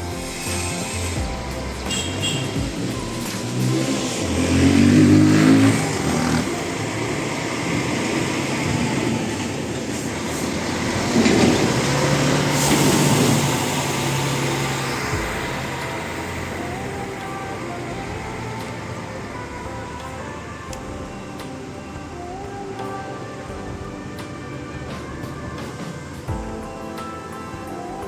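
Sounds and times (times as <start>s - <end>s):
vehicle engine revving past: 0.0s - 26.3s
vehicle engine hum passing: 0.0s - 26.4s.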